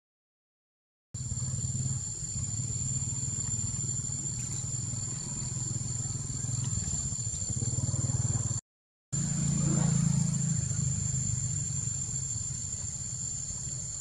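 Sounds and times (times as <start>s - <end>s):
pulsing engine rumble: 1.2s - 8.6s, 9.2s - 14.0s.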